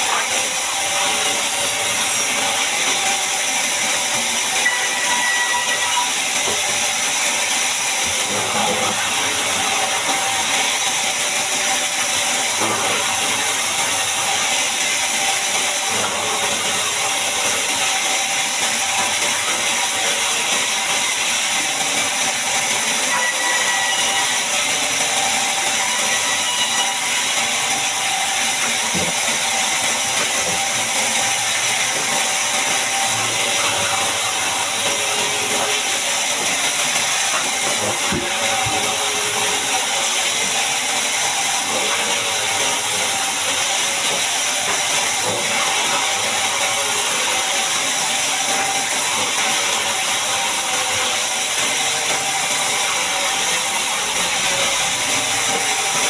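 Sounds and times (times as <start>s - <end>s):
bandsaw mill running: 0.0s - 56.0s.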